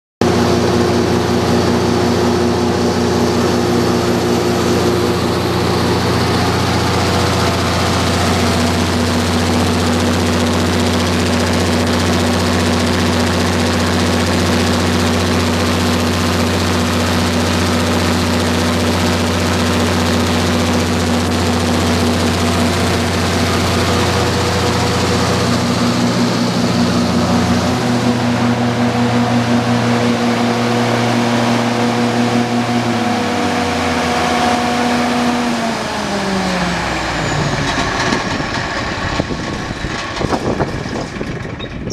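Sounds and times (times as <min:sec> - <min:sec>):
diesel generator droning: 0:00.2 - 0:41.9.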